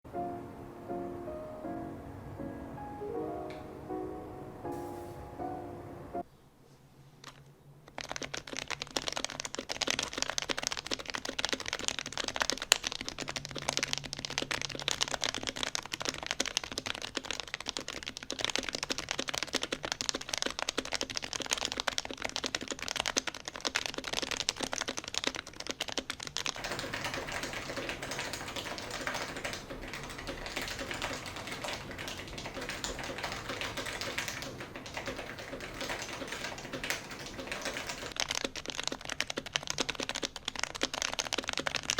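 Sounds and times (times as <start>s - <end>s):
typing on keyboard: 7.2s - 41.9s.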